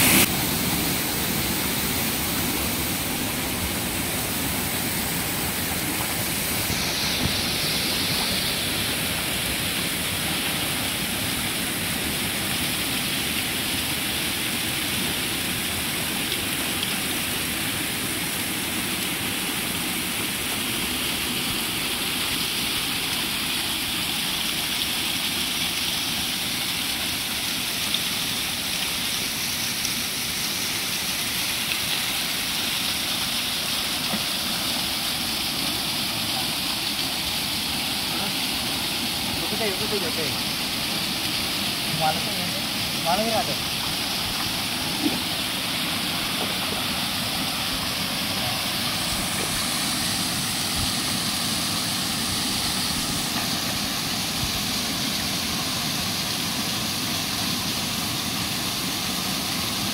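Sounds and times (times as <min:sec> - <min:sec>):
waterfall splashing into pool: 0:00.0 - 0:59.9.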